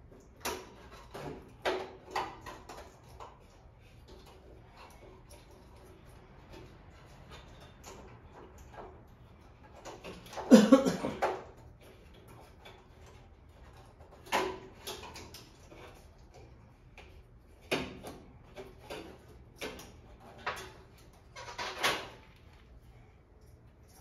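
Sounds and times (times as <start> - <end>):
tools clicking and knocking: 0.1 - 22.4.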